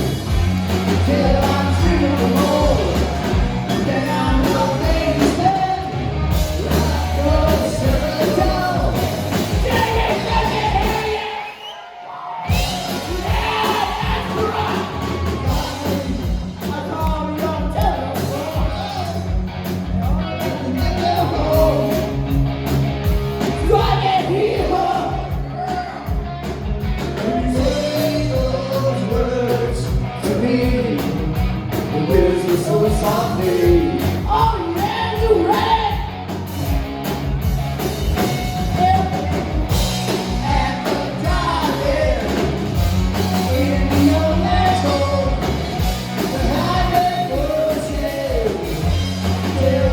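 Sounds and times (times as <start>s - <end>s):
steady drum beat: 0.0s - 11.4s, 12.5s - 49.9s
live rock band playing: 0.0s - 11.5s, 12.5s - 49.9s
lead singer singing: 0.7s - 19.4s, 20.1s - 22.2s, 23.5s - 26.2s, 27.1s - 36.2s, 38.5s - 49.9s.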